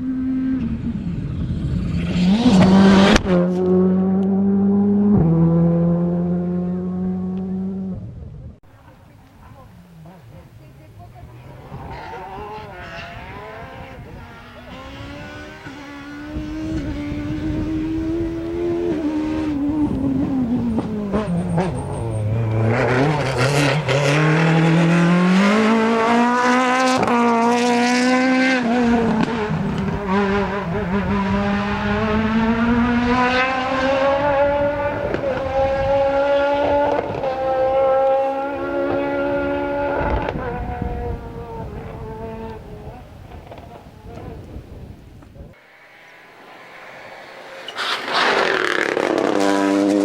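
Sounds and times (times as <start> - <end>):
rally car engine accelerating: 0.0 - 8.2, 9.5 - 45.6, 46.4 - 50.0.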